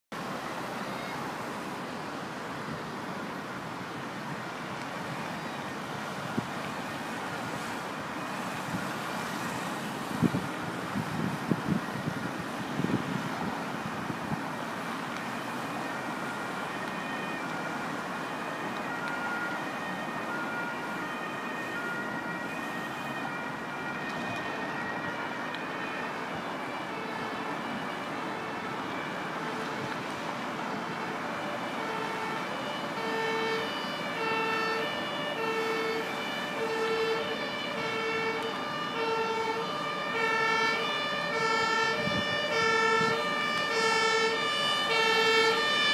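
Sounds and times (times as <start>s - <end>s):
road traffic: 0.1s - 45.9s
two-tone siren: 6.4s - 10.4s, 11.0s - 13.3s, 14.8s - 45.9s.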